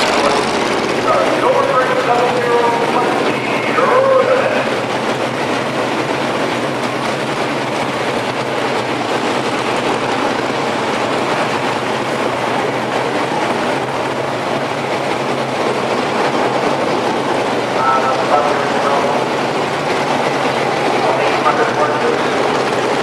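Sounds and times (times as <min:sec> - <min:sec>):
race car engines rumbling: 0:00.0 - 0:23.0.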